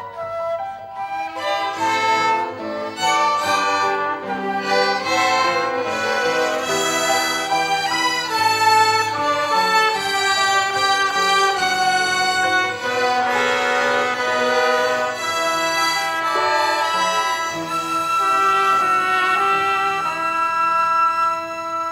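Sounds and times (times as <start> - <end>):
violin ensemble playing hymn: 0.0 - 21.9.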